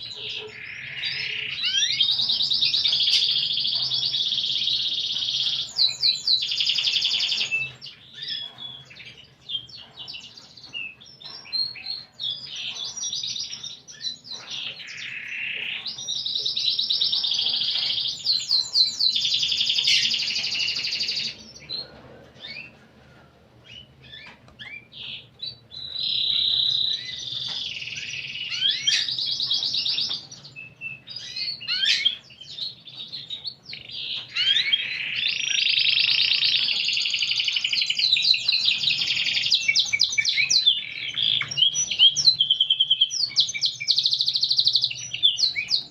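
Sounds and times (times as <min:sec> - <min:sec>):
canary singing trills: 0:00.0 - 0:23.0, 0:23.6 - 0:45.9.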